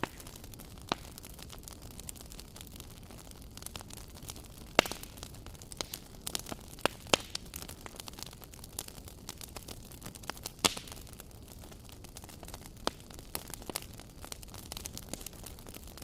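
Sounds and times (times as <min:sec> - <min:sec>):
low steady hiss: 0:00.0 - 0:16.0
wood fire crackling: 0:00.0 - 0:16.0.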